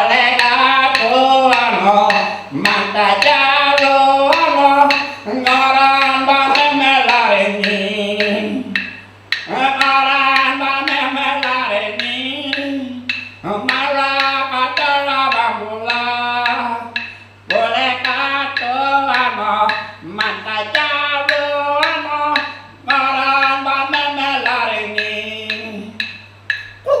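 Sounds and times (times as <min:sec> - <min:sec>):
man singing long falling phrases: 0:00.0 - 0:26.1
sharp rhythmic taps: 0:00.0 - 0:26.9.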